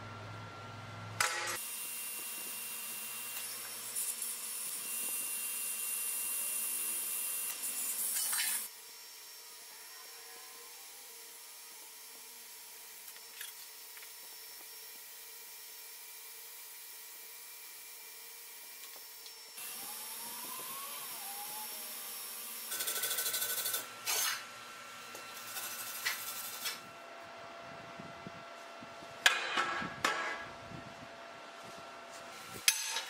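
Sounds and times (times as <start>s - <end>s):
welding arc humming and whining: 0.0s - 33.0s.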